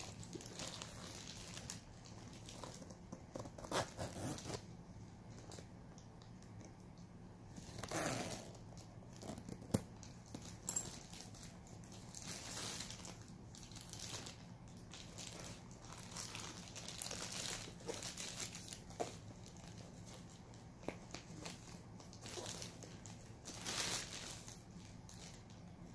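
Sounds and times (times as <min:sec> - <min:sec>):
plastic wrapping crinkling: 0:00.0 - 0:25.9.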